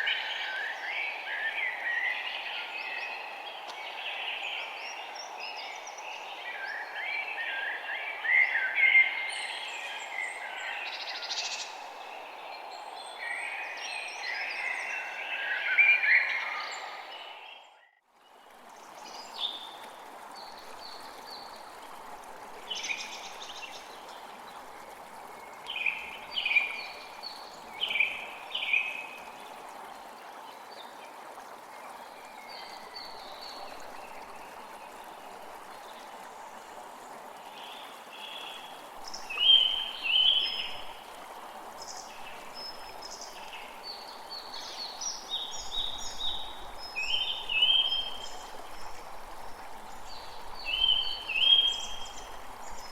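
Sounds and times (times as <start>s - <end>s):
stream running water: 0.0s - 52.9s.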